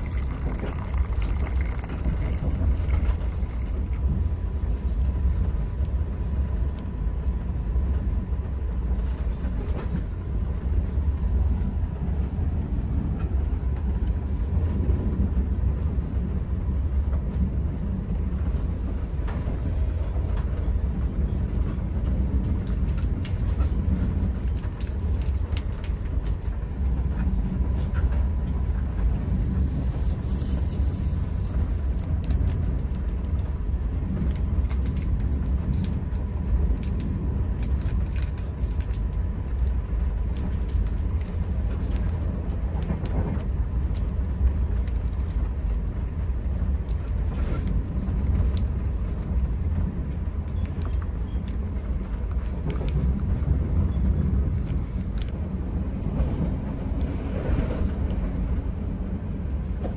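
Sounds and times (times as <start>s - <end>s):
train rumble inside coach: 0.0s - 59.9s.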